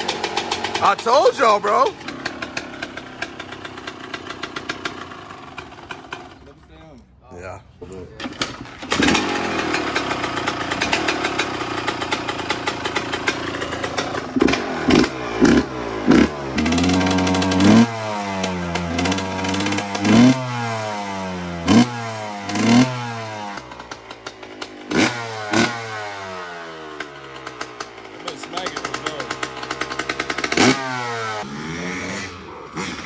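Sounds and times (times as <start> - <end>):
two-stroke engine revving: 0.0 - 6.6, 8.2 - 33.0.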